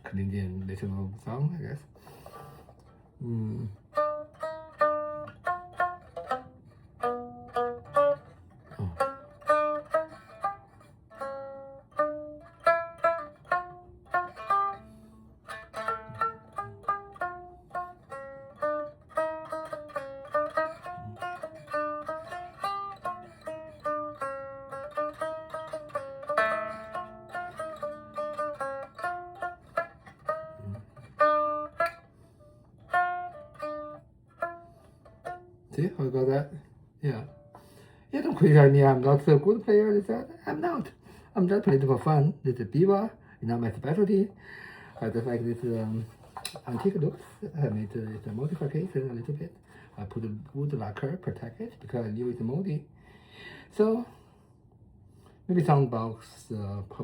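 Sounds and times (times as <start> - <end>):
plucked lute melody: 2.3 - 52.8.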